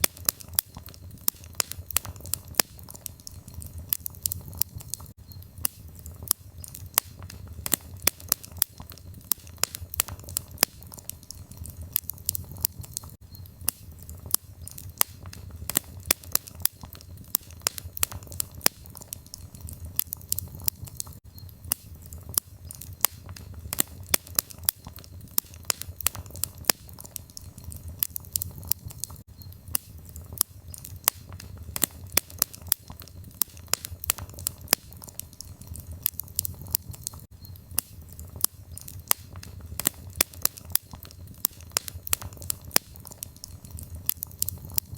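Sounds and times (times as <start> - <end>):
firewood crackling and popping: 0.0 - 44.9
low rumble of flames: 0.0 - 44.9.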